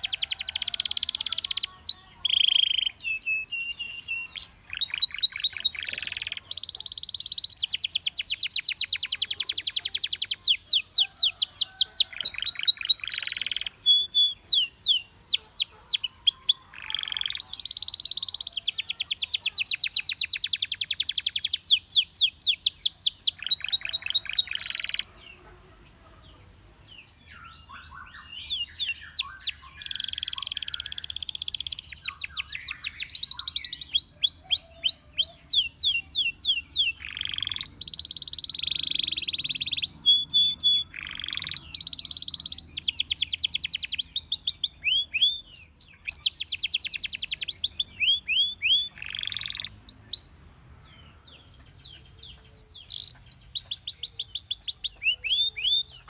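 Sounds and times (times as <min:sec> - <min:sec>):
canary trilling: 0:00.0 - 0:25.6, 0:27.5 - 0:50.3, 0:51.4 - 0:56.0
bird chirps: 0:00.0 - 0:56.0.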